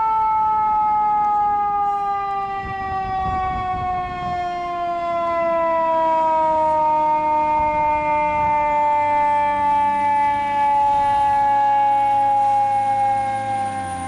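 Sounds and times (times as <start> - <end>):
fire truck siren: 0.0 - 14.0
truck engine rumbling: 0.0 - 14.0.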